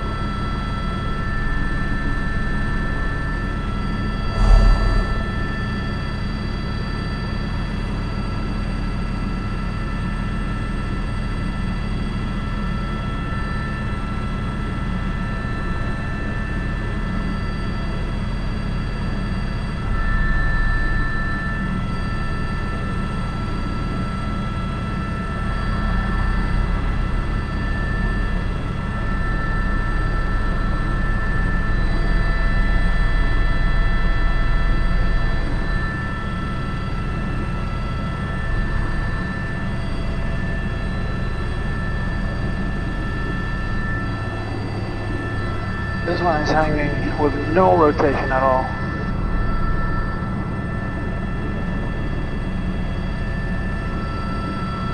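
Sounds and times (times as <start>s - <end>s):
helicopter rotor beat: 0.0s - 54.9s
helicopter turbine whine: 0.0s - 54.9s.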